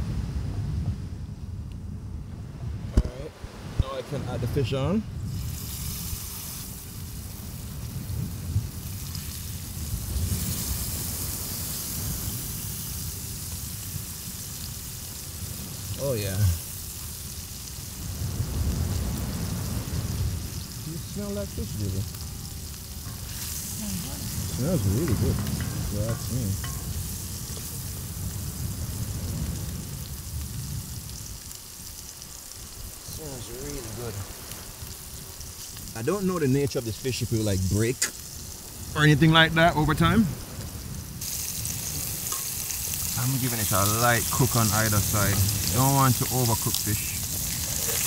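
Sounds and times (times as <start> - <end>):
fish sizzling in butter: 5.2 - 48.0.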